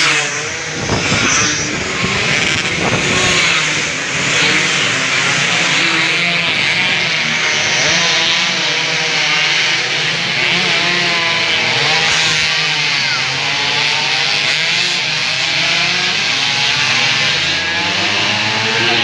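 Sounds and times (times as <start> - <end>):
two-stroke motorcycles revving: 0.0 - 19.0.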